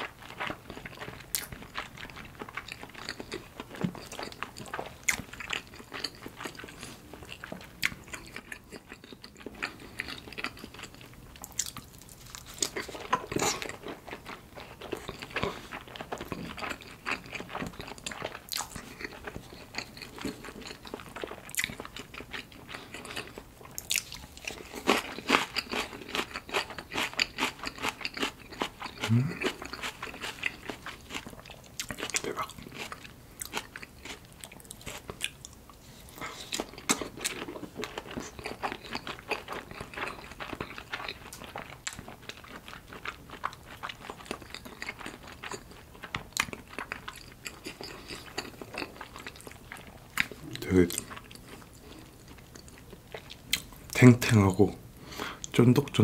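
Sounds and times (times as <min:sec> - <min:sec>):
chewing sushi: 0:00.0 - 0:56.0.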